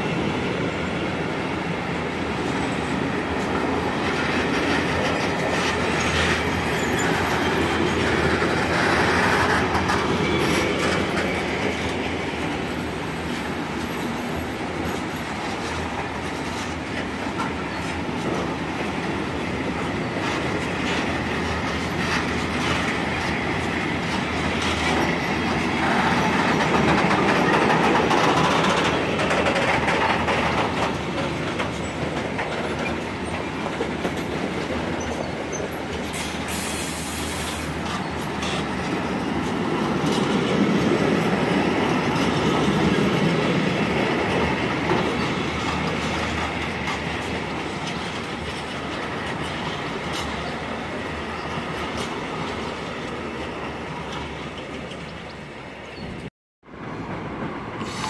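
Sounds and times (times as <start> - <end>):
steel wheels rumbling on rail: 0.0 - 58.0
wheels clacking over rail joints: 2.4 - 58.0.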